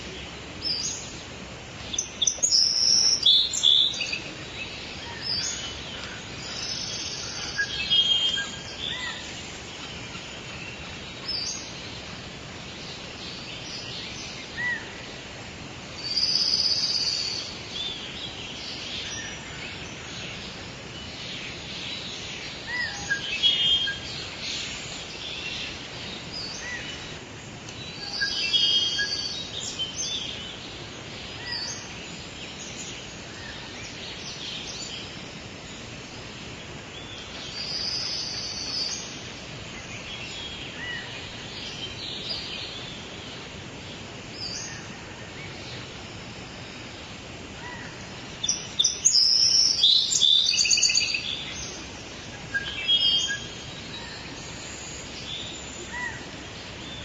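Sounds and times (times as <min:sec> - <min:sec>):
songbirds chirping and singing: 0:00.0 - 0:15.3, 0:15.9 - 0:57.0
steady background hiss: 0:00.0 - 0:57.0.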